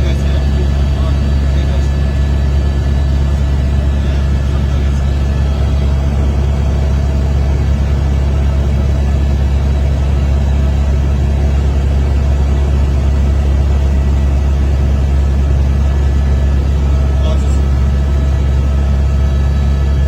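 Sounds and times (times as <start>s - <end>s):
helicopter engine and rotor drone: 0.0s - 20.0s.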